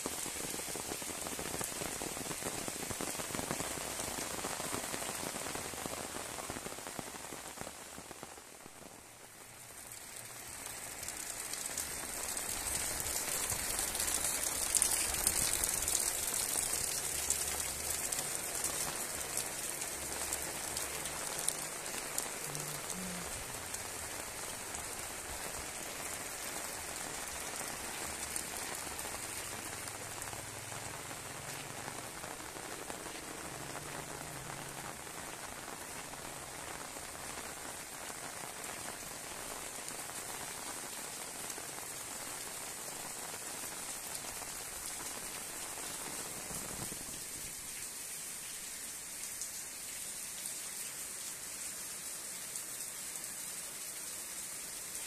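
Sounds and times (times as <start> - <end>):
heavy rain on puddles: 0.0 - 55.0.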